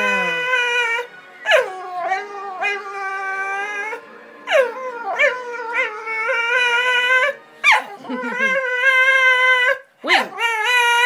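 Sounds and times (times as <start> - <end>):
dog howling: 0.0 - 11.0.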